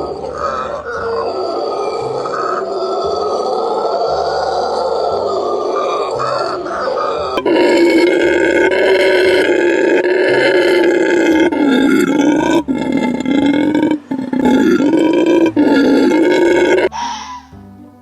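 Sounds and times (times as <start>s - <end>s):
animal roaring: 0.0s - 16.9s.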